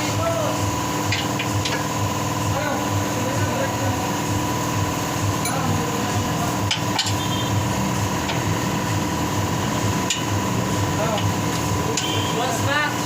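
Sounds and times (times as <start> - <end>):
droning hum: 0.0 - 13.0.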